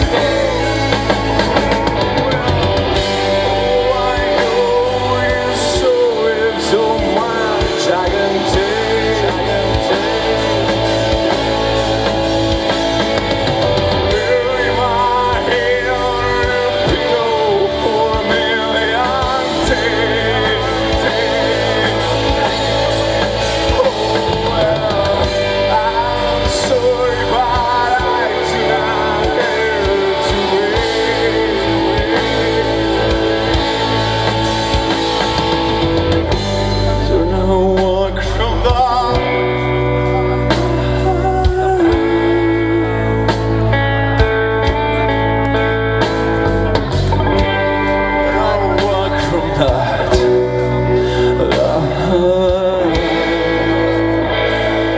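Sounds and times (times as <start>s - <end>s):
man singing: 0.0s - 45.3s, 47.1s - 54.9s
rock band playing: 0.0s - 54.9s.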